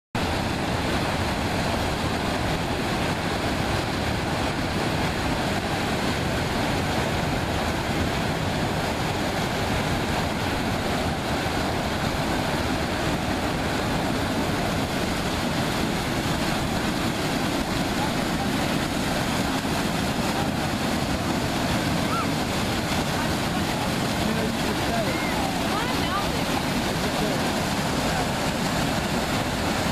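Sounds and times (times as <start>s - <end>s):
waterfall rushing into pool: 0.2s - 29.9s.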